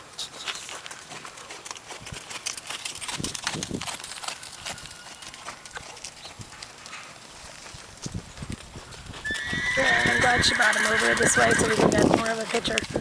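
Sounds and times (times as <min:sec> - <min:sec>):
horse hoofbeats on sand: 0:00.7 - 0:13.0.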